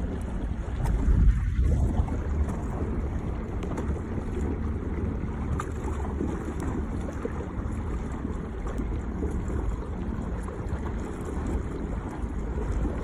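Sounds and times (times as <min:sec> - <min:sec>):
lake water lapping: 0:00.0 - 0:13.0
wind buffeting microphone: 0:00.0 - 0:13.0.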